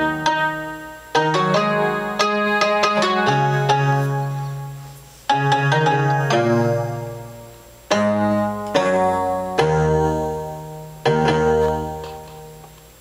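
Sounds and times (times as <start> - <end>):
electronic keyboard chords: 0.0 - 13.0.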